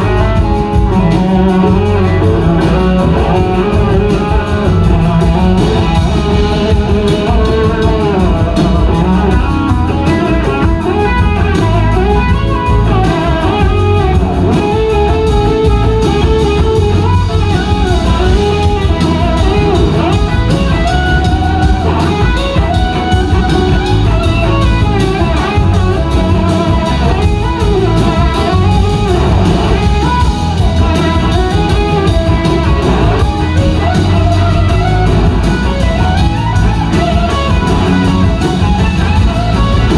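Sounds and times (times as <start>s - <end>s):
bass: 0.0s - 39.9s
drum kit: 0.0s - 39.9s
electric guitar: 0.0s - 39.9s
electric slide guitar: 0.0s - 39.9s.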